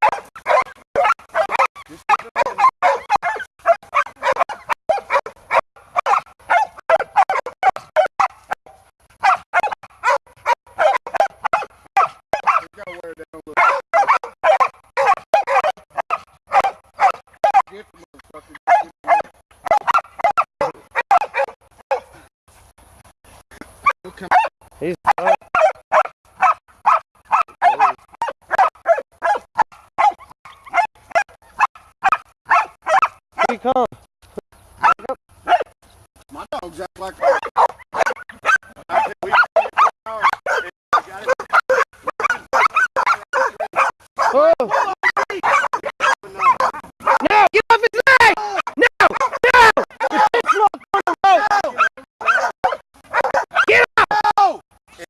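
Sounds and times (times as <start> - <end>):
dogs barking rapidly: 0.0 - 22.3, 23.8 - 33.7, 34.8 - 35.8, 36.5 - 54.3.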